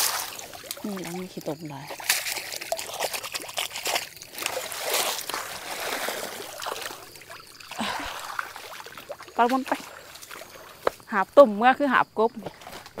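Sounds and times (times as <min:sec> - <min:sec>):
water pouring and dripping: 0:00.0 - 0:11.1
water splashing and trickling: 0:00.0 - 0:13.0.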